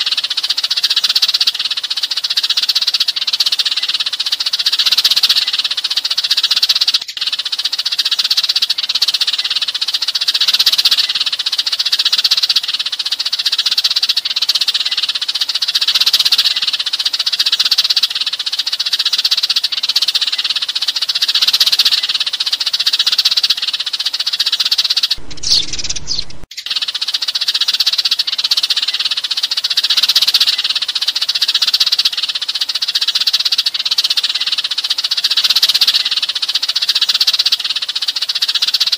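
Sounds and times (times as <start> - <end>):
sparrows chirping and chattering: 0.0 - 38.9.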